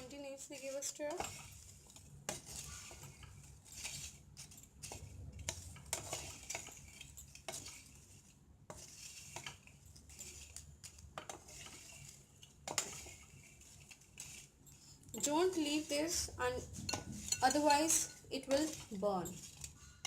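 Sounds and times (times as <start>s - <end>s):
utensil scraping bread in pan: 0.0s - 20.0s.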